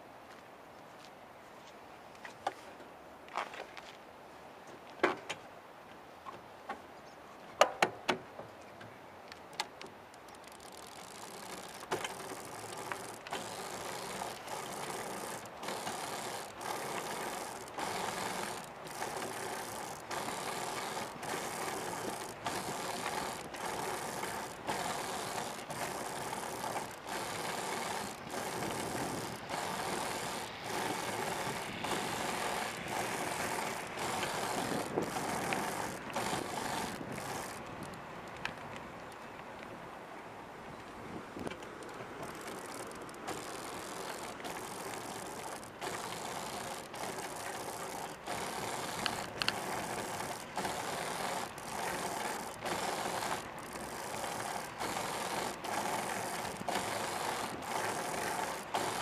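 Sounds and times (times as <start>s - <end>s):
sharp clicks from trike frame: 2.2s - 4.0s, 7.5s - 39.8s, 40.7s - 59.0s
trike rolling mechanical noise: 6.3s - 39.9s, 40.7s - 59.0s.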